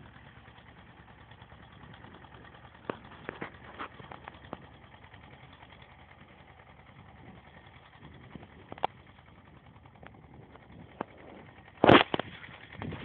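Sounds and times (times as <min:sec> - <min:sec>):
distant tractor diesel engine: 0:00.0 - 0:13.0.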